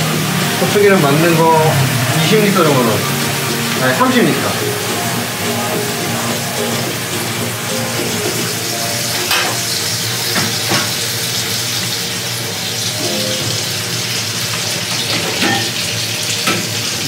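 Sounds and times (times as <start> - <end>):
bacon and onion sizzling in pan: 0.0 - 17.0.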